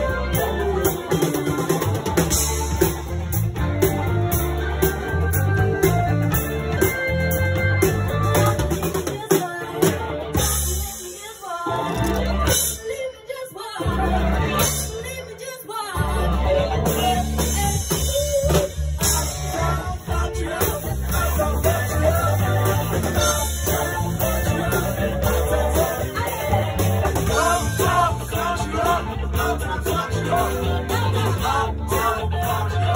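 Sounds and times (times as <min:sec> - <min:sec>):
person singing: 0:00.0 - 0:02.9, 0:08.2 - 0:32.9
live band playing funk-pop: 0:00.0 - 0:32.9.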